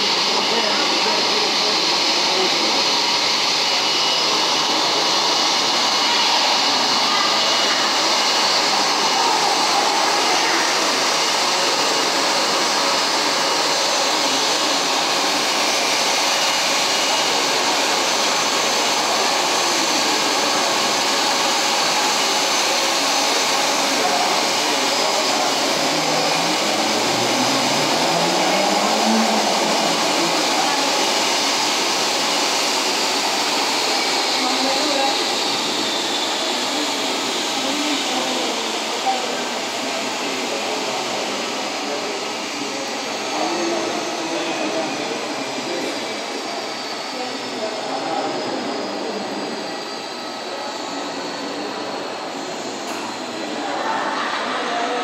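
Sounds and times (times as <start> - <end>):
jet engines idling with whine: 0.0 - 55.0.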